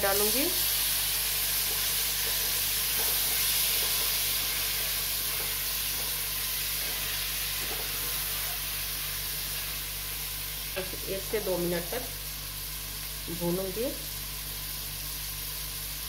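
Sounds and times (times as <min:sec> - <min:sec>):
tomatoes sizzling in hot oil: 0:00.0 - 0:16.0.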